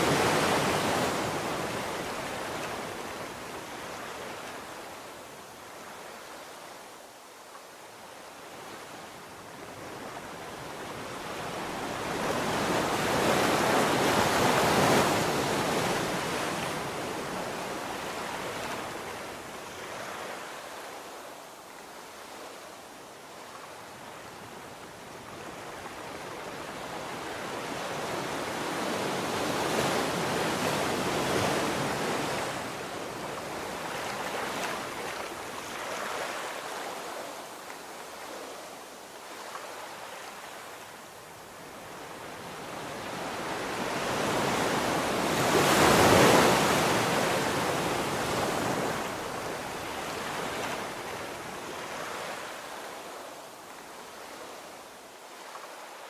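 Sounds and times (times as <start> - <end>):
ocean waves breaking on beach: 0.0 - 56.0.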